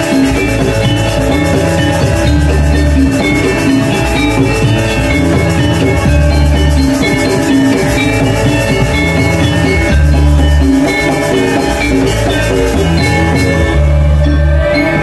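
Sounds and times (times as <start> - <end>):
drums: 0.0 - 15.0
metallophones ringing: 0.0 - 15.0.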